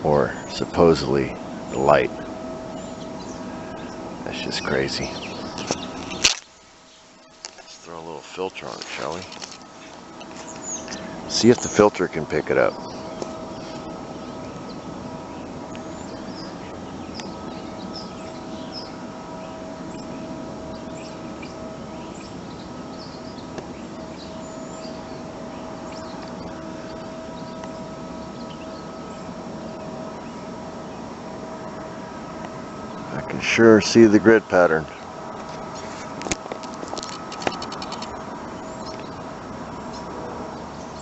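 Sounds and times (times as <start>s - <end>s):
small birds chirping: 0.0s - 31.1s, 37.0s - 41.0s
steady whining hum: 0.0s - 41.0s.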